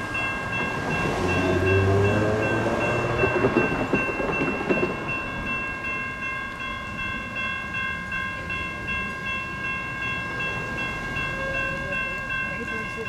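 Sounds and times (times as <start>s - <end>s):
electronic crossing bells ringing: 0.0s - 13.0s.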